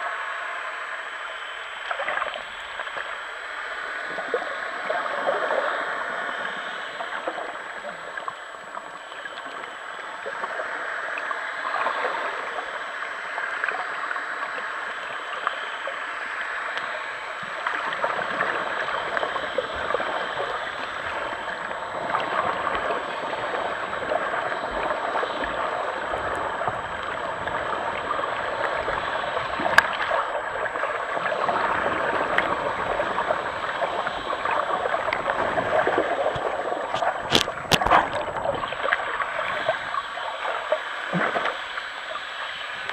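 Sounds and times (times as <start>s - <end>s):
crackling hiss: 0.0s - 42.9s
underwater water rushing and gurgling: 0.0s - 42.9s.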